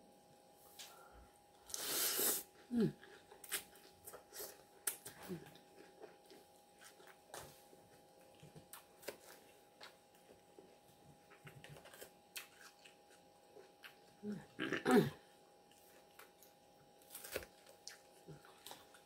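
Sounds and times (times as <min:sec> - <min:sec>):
person chewing food: 0:01.6 - 0:14.2, 0:15.6 - 0:19.0.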